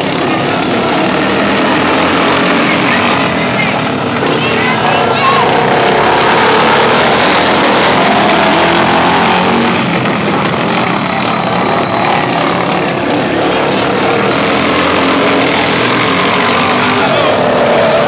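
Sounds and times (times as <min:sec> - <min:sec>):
lawn mower engines running: 0:00.0 - 0:18.0.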